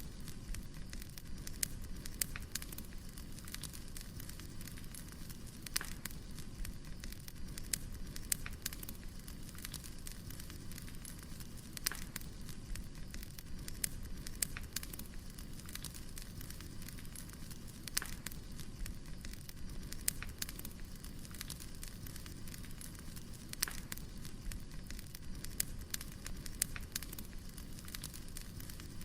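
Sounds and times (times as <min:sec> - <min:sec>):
fire hissing: 0:00.0 - 0:29.0
firewood crackling and popping: 0:00.0 - 0:29.0.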